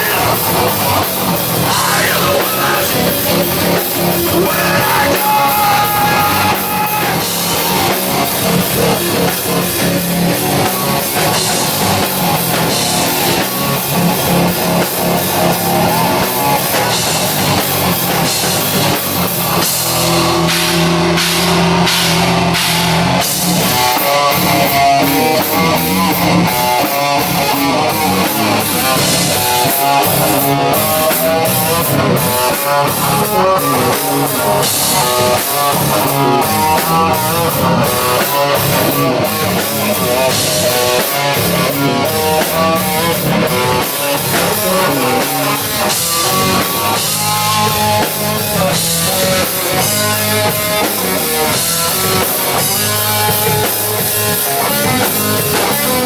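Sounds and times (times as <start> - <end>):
drum kit: 0.0 - 56.0.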